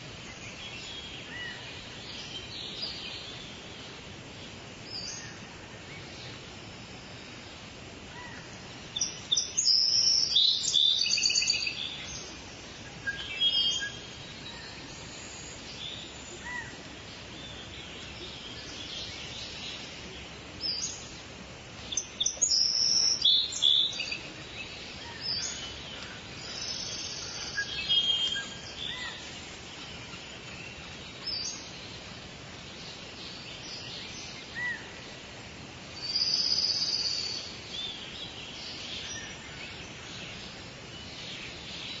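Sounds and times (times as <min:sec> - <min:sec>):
birds singing and calling: 0:00.0 - 0:42.0
steady background hiss: 0:00.0 - 0:42.0.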